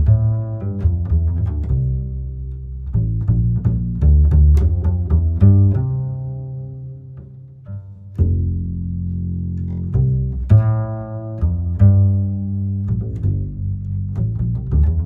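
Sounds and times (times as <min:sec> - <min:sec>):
bass-heavy background music: 0:00.0 - 0:15.0.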